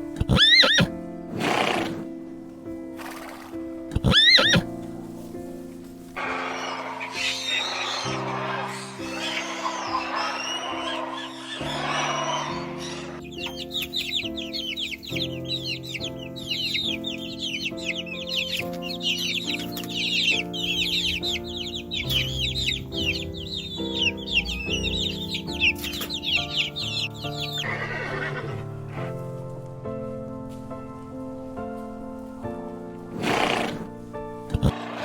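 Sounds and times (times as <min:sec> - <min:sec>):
birds chirping: 0:00.0 - 0:35.0
soft piano music: 0:00.0 - 0:35.0.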